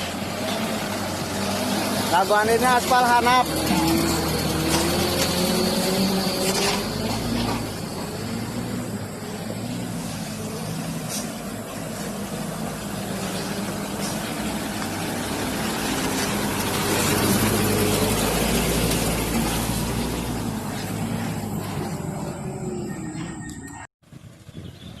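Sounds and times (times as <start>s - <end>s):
truck engine droning: 0.0s - 24.5s.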